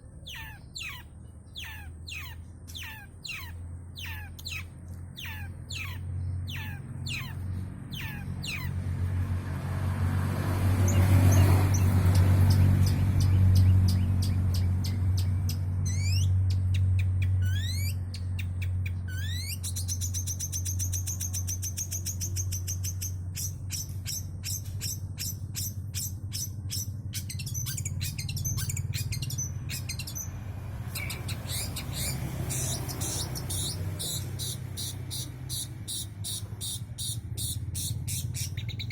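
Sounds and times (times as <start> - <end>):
bird singing varied song: 0.0 - 9.4, 10.7 - 38.9.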